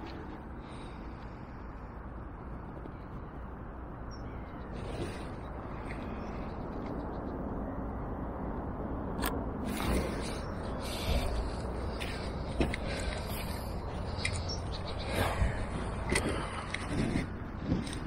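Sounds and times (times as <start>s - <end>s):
low outdoor background noise: 0.0s - 18.0s.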